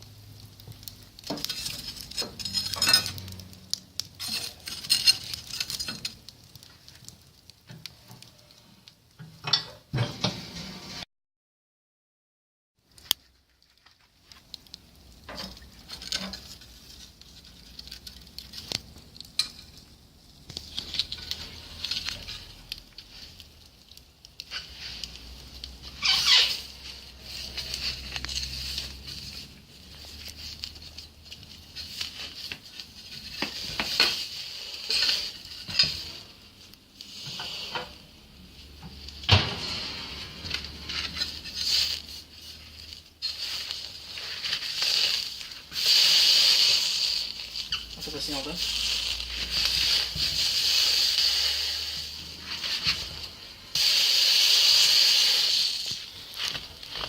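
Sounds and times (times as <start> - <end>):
fire crackling: 0.0 - 11.0, 12.8 - 57.0.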